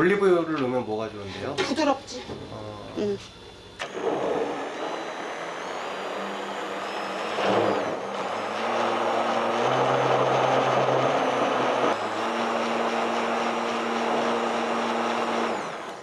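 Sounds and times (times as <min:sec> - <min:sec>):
electric blender running: 0:00.0 - 0:16.0.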